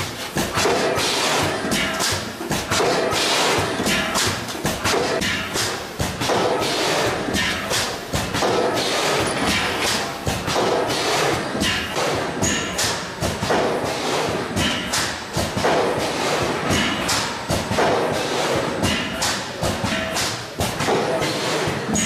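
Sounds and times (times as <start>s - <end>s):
mechanical thumps and clatter: 0.0s - 22.0s.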